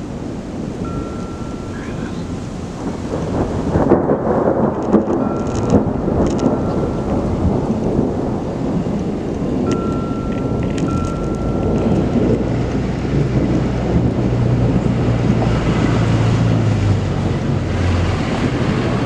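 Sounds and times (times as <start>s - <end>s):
thunder rumbling: 0.0s - 19.0s.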